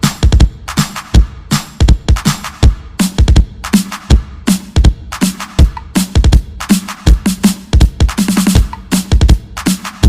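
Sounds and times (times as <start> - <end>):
bass-boosted electronic dance music: 0.0 - 10.0.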